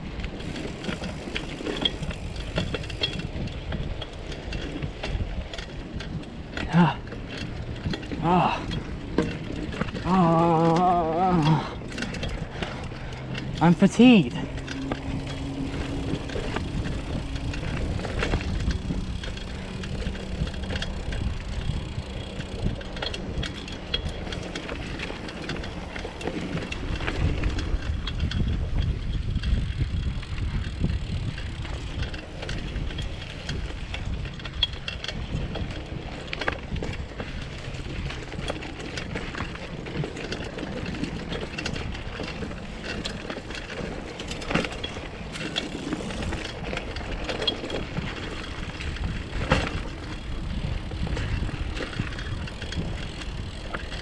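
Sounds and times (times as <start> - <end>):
wind on microphone: 0.0 - 13.6, 14.2 - 54.0
bicycle rattling: 0.0 - 54.0
bicycle knocking over bumps: 0.3 - 54.0.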